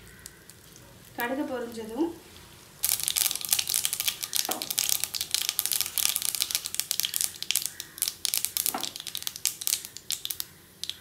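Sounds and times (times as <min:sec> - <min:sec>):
mustard seeds crackling in hot oil: 0:00.0 - 0:11.0.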